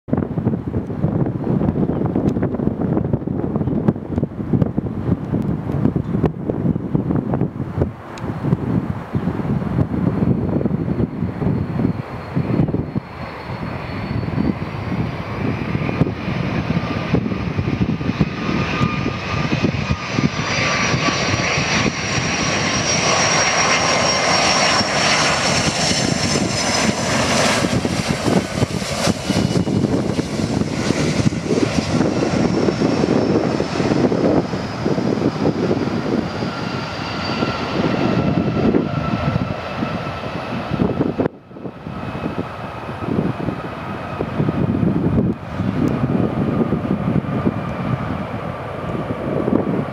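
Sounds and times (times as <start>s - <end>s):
jet engines whining: 0.1s - 49.9s
jet roar: 0.1s - 49.9s.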